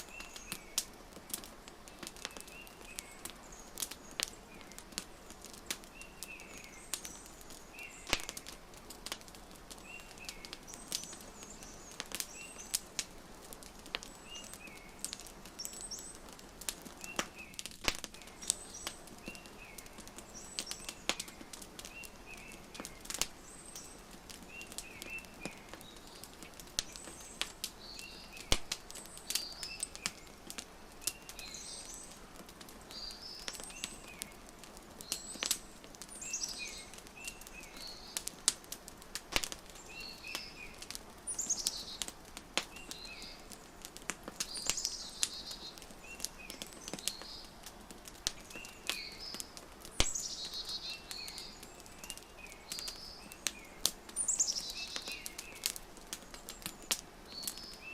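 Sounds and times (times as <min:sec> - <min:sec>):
soft steady hiss: 0:00.0 - 0:57.9
songbirds chirping: 0:00.0 - 0:57.9
wood fire crackling: 0:00.0 - 0:57.9.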